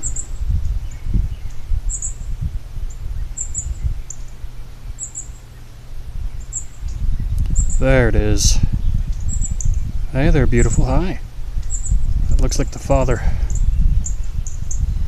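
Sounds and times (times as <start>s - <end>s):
low rumble on microphone: 0.0s - 15.0s
small bird chirping: 0.0s - 15.0s.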